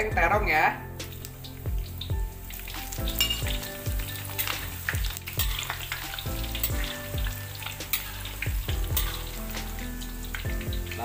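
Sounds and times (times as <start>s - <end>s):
eggplant sizzling in hot oil: 0.0s - 11.0s.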